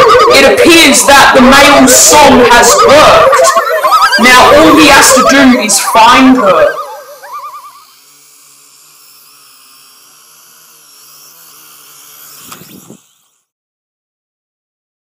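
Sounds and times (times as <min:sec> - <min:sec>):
toy drone propellers buzzing: 0:00.0 - 0:13.6.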